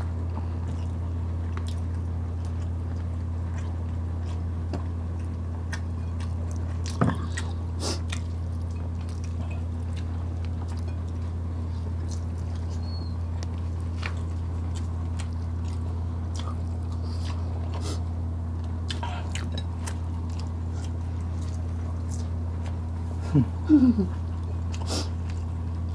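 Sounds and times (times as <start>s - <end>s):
steady low hum: 0.0s - 25.9s
wet chewing: 0.2s - 22.9s, 24.1s - 25.9s.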